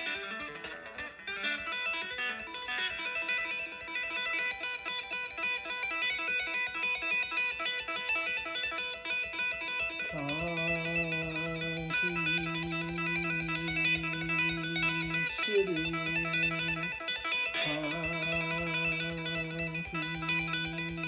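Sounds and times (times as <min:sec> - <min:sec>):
electric guitar tapping: 0:00.0 - 0:21.0.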